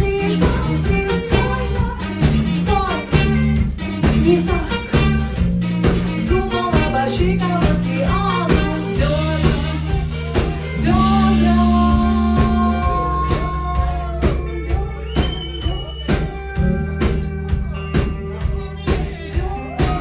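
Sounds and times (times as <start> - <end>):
bass: 0.0 - 20.0
drum kit steady beat: 0.0 - 20.0.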